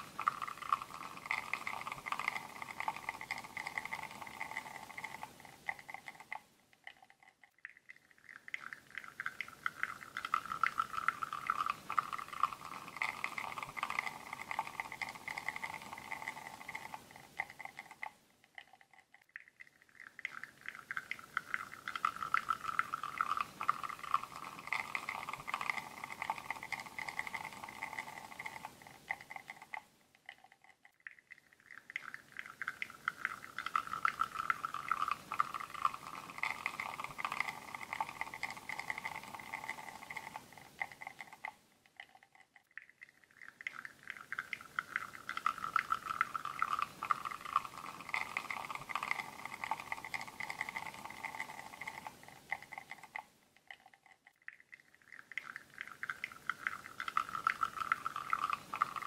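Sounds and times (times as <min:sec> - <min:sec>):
espresso trickling into cup: 0:00.0 - 0:06.4, 0:08.2 - 0:19.0, 0:20.0 - 0:29.8, 0:31.8 - 0:41.6, 0:43.6 - 0:53.8, 0:55.2 - 0:59.0.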